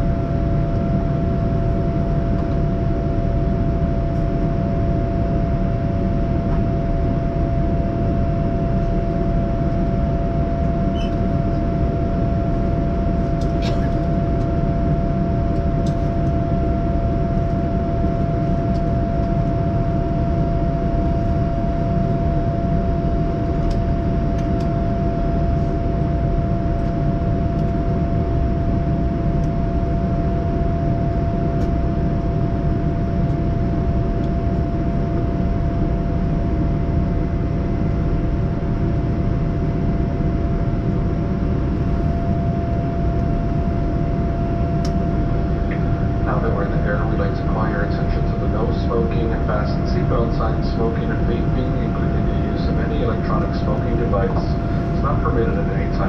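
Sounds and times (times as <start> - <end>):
aircraft cabin air and engine rush: 0.0 - 56.0
steady mid-pitched hum: 0.0 - 56.0.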